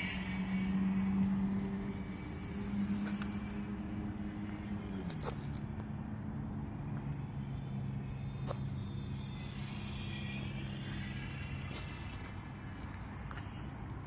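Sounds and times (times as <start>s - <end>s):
model plane propeller droning: 0.0s - 14.0s.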